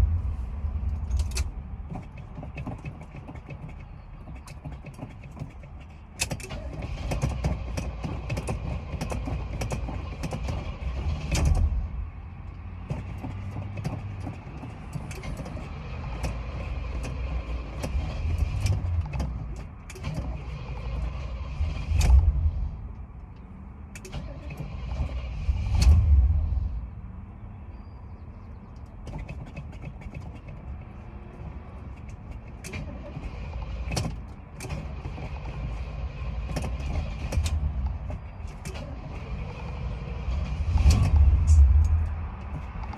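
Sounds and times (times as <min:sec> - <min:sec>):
car engine cranking: 0:00.0 - 0:26.9, 0:28.6 - 0:42.9.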